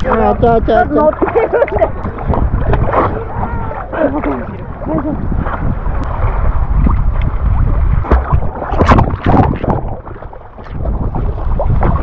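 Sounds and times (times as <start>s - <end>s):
water splashing: 0.0s - 12.0s
wind rumble on microphone: 0.0s - 12.0s.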